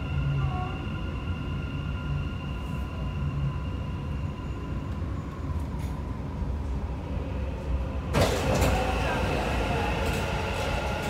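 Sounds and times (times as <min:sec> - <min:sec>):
passing train rush: 0:00.0 - 0:11.0
train cabin low rumble: 0:00.0 - 0:11.0.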